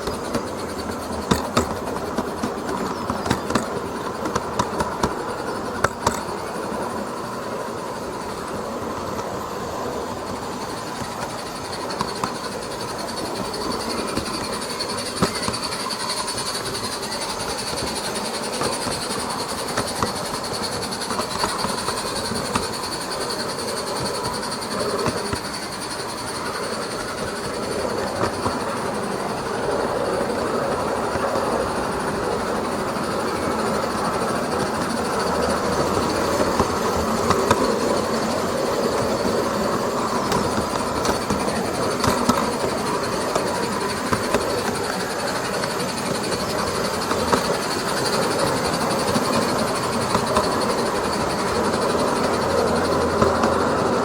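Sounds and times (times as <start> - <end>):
model train rolling: 0.0 - 54.0
wheel clicks over rail joints: 0.0 - 54.0.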